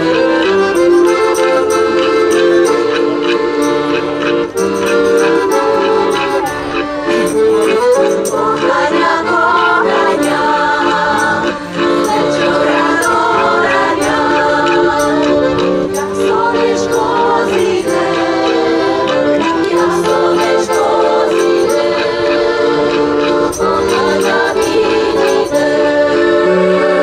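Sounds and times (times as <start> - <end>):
piano accordion: 0.0 - 27.0
women's choir singing in harmony: 0.0 - 27.0.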